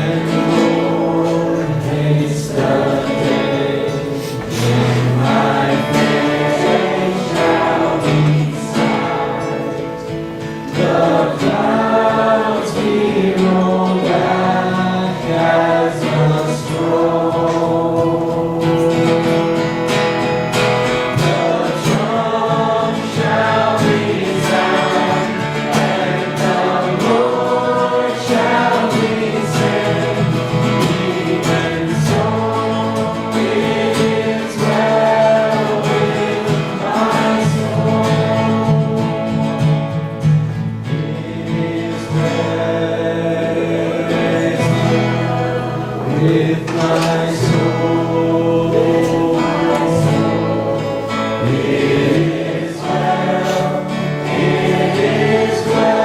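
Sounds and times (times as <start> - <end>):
choir and congregation singing: 0.0 - 56.0
guitar and band accompaniment: 0.0 - 56.0.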